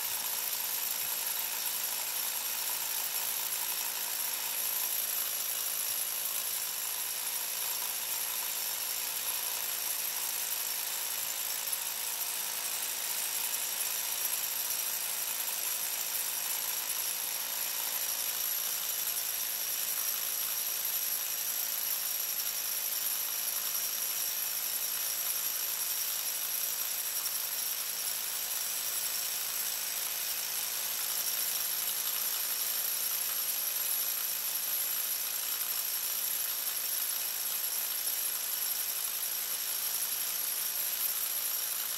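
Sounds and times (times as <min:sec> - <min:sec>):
rotary hammer drilling into stone: 0:00.0 - 0:41.9.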